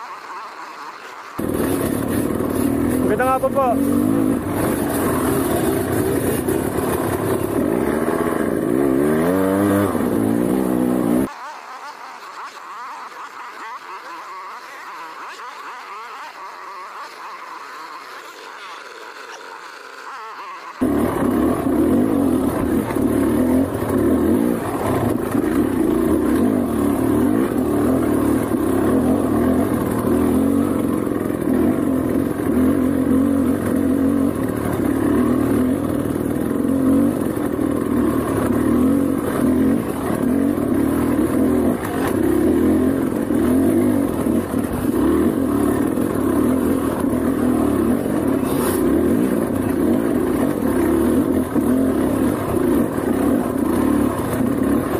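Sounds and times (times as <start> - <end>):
motorcycle engine running: 0.0 - 11.5, 12.2 - 54.9.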